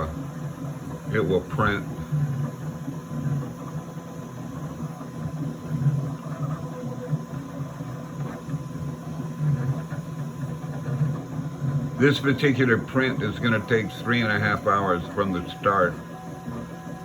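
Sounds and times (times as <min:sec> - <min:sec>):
printer motors humming and whirring: 0:00.0 - 0:17.0.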